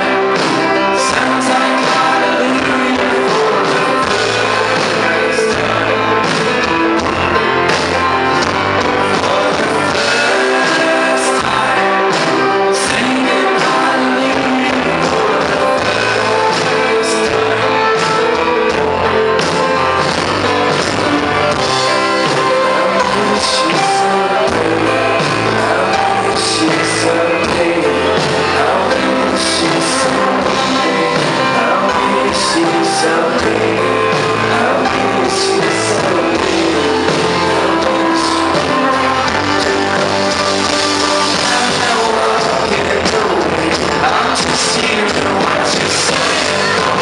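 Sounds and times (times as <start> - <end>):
folk band playing live: 0.0 - 47.0
person singing: 0.0 - 47.0
steady drum beat: 0.0 - 47.0.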